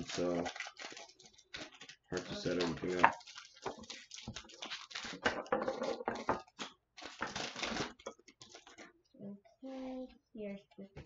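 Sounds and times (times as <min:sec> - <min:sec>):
foil wrapper crinkling: 0:00.0 - 0:08.9.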